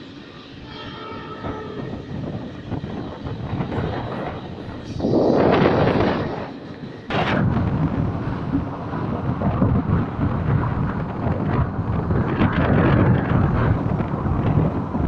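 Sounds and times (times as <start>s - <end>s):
moving train rumble and rattle: 0.0s - 15.0s
wind buffeting microphone: 0.1s - 15.0s.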